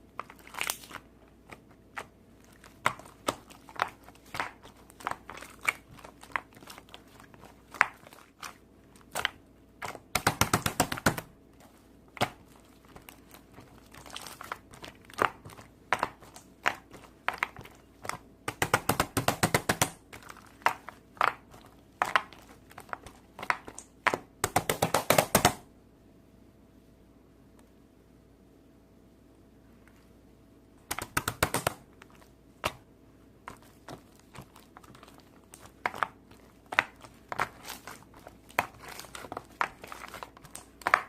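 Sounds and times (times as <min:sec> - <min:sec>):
crunchy slime clicking and crackling: 0:00.0 - 0:25.6, 0:30.8 - 0:41.0.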